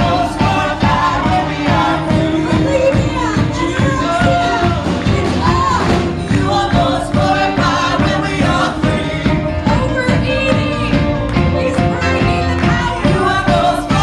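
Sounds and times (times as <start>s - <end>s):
band with driving beat: 0.0s - 14.0s
group of singers: 0.0s - 14.0s.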